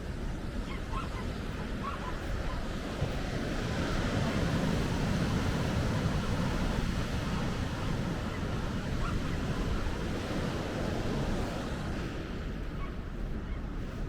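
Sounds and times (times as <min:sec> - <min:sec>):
ocean waves rushing: 0:00.0 - 0:14.0.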